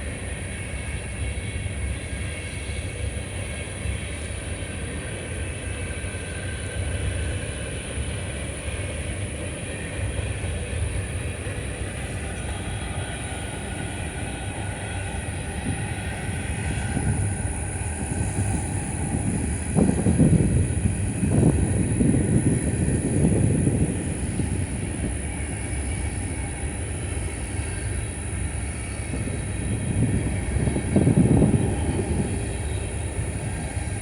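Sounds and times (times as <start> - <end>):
faint high wheel squeal: 0.0 - 34.0
train wheels rumbling on rail: 0.0 - 34.0
wind buffeting microphone: 0.0 - 34.0.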